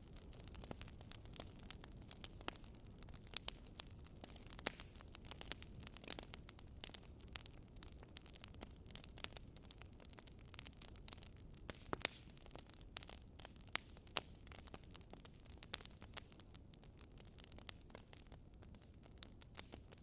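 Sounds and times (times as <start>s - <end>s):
firewood crackling: 0.0s - 20.0s.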